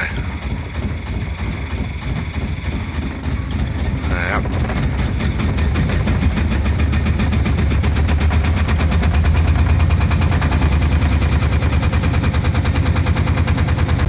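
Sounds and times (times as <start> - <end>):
small boat engine chugging: 0.0 - 14.0.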